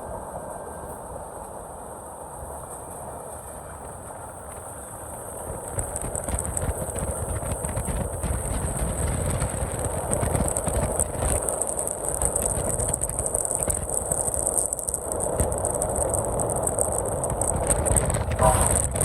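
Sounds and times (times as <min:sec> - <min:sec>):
train wheels clicking over rail joints: 0:02.6 - 0:19.0.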